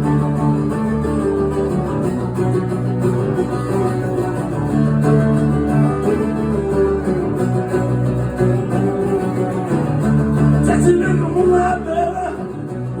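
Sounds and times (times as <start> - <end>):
bass: 0.0 - 13.0
strummed acoustic guitar: 0.0 - 13.0.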